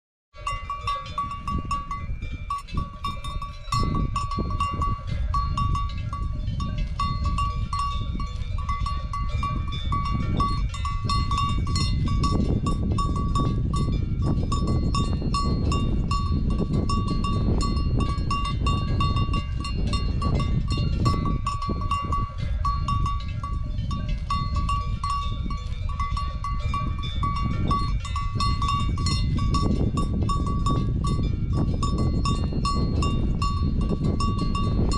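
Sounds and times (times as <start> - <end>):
cow tearing and chewing grass: 0.4 - 34.8
cowbell ringing: 0.4 - 34.9.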